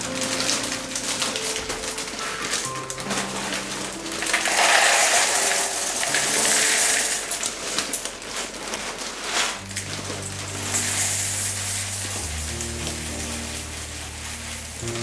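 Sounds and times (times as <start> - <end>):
cereal flakes pouring into bowl: 0.0 - 15.0
plastic bag rustling: 0.0 - 15.0.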